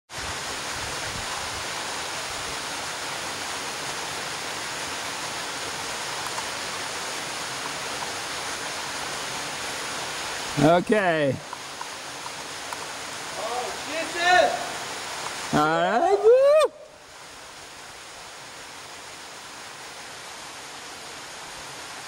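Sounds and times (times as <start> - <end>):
flowing water rushing: 0.1 - 22.0.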